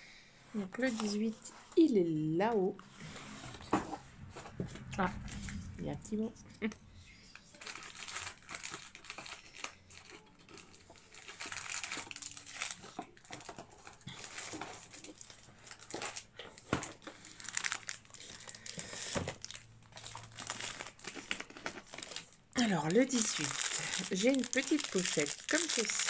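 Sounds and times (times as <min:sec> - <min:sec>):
gift wrapping crinkling: 0:00.8 - 0:02.0, 0:06.3 - 0:26.0.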